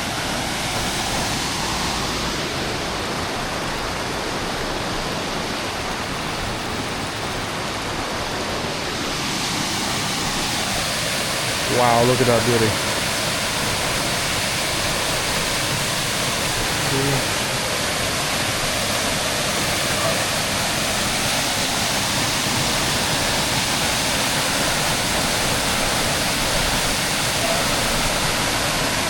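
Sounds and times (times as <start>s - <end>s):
waterfall hiss: 0.0s - 29.0s.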